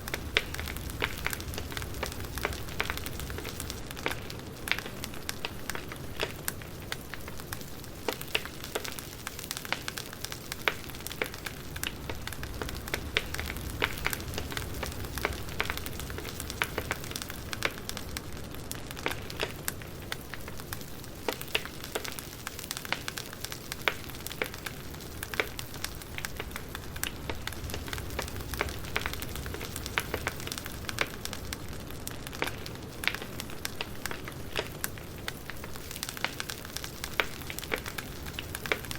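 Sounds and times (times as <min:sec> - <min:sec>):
firewood crackling: 0:00.0 - 0:38.9
low rumble and hiss: 0:00.0 - 0:38.9.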